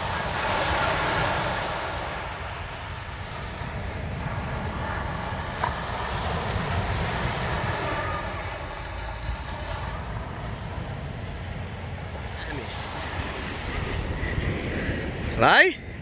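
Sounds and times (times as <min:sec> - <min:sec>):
surf breaking on beach: 0:00.0 - 0:16.0
wind rumbling on microphone: 0:00.0 - 0:16.0.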